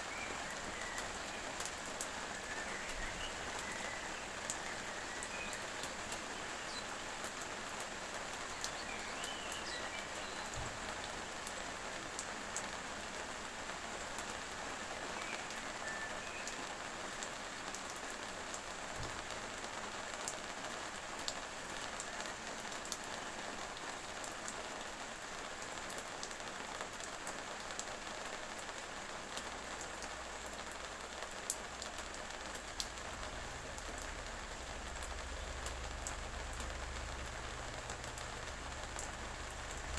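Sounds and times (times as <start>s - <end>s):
raindrops ticking on a surface: 0.0s - 39.9s
steady rain falling: 0.0s - 39.9s.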